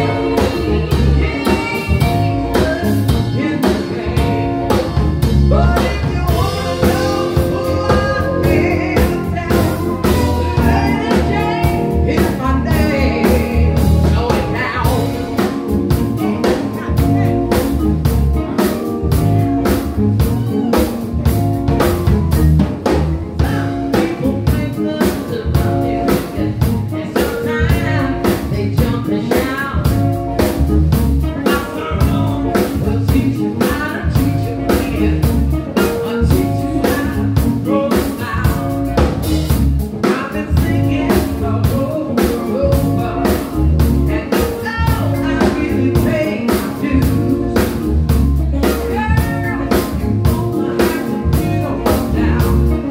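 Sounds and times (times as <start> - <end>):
woman singing: 0.0 - 17.7, 23.4 - 30.6, 31.2 - 39.1, 40.0 - 47.9, 48.6 - 52.9
blues band playing: 0.0 - 52.9
drum-kit beat: 0.0 - 52.9.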